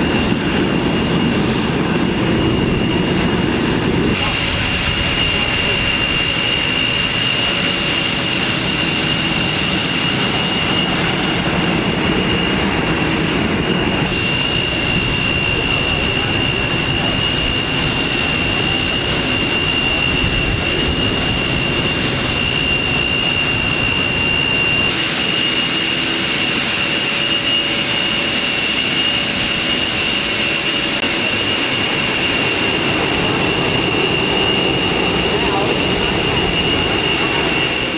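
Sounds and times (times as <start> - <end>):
jet engine rumble: 0.0 - 37.9
jet engine whine: 0.0 - 37.9.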